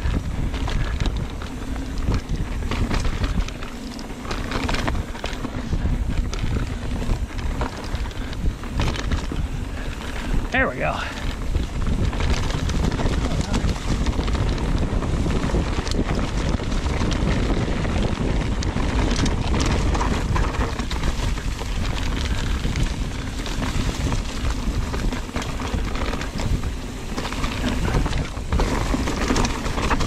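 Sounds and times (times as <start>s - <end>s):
bike clattering and rattling: 0.0s - 30.0s
tyres rushing on dirt trail: 0.0s - 30.0s
wind buffeting microphone: 0.0s - 30.0s.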